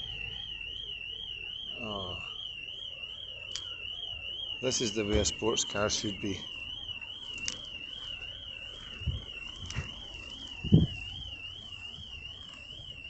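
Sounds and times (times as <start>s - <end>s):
electronic alarm warbling: 0.0s - 13.0s.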